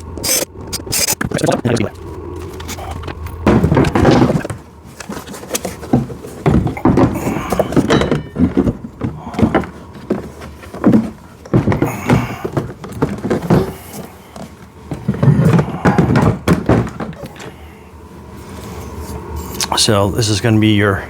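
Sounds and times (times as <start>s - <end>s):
rustling: 0.0s - 19.6s
plastic parts knocking and clattering: 0.2s - 17.6s.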